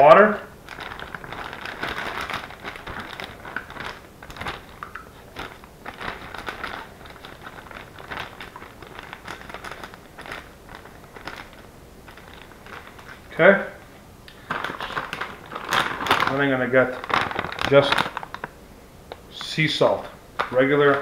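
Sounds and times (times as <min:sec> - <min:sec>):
plastic bag crinkling: 0:00.5 - 0:13.5, 0:14.3 - 0:18.6.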